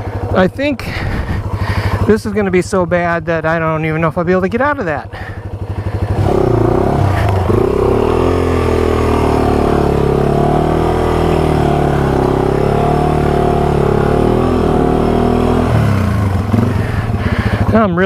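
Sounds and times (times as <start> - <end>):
motorcycle engine revving hard: 0.0 - 2.9, 5.1 - 18.0.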